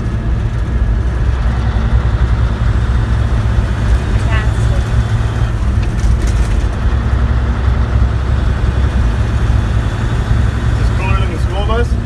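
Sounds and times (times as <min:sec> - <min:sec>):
road and cab noise: 0:00.0 - 0:12.0
truck diesel engine rumbling: 0:00.0 - 0:12.0.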